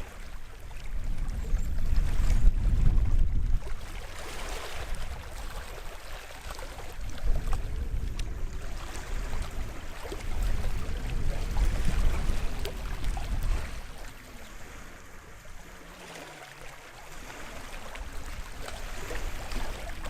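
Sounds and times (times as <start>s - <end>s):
sea waves washing onto shore: 3.4s - 20.0s.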